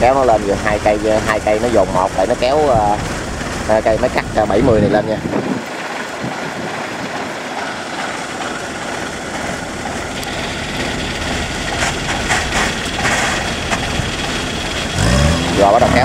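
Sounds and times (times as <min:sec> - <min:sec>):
combine harvester engines running: 0:00.0 - 0:16.0.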